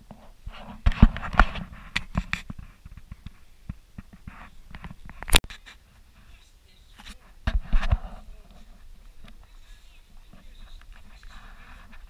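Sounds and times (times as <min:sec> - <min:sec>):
knocks and scrapes: 0:00.0 - 0:06.4, 0:07.0 - 0:12.0.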